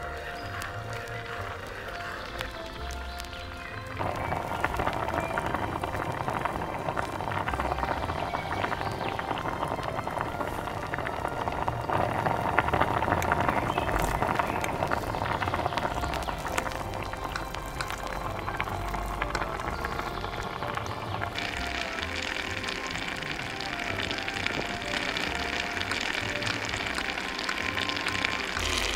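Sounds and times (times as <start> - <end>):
sauce bubbling in a pot: 0.0 - 28.9.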